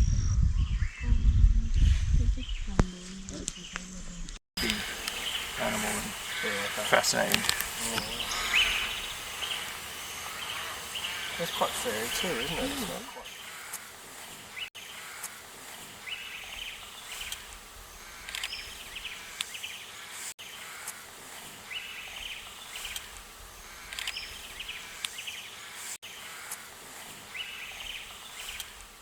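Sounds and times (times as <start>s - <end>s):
high insect chirps and buzzes: 4.6s - 29.0s.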